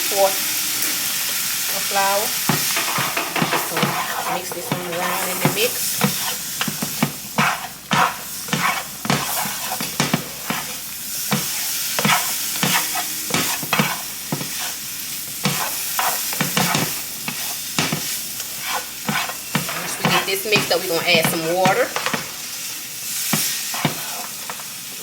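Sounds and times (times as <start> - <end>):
utensil scraping a pan: 0.0 - 22.3, 23.1 - 24.6
mushrooms sizzling in a pan: 0.0 - 25.0.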